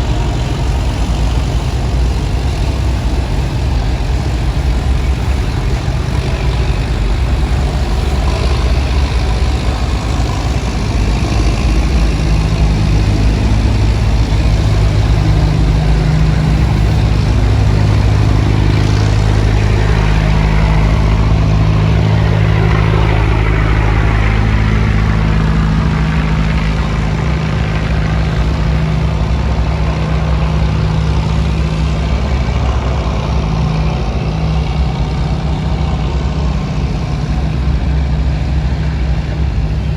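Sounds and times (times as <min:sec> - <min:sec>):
boat diesel engine running: 0:00.0 - 0:39.9
continuous rushing noise: 0:00.0 - 0:39.9.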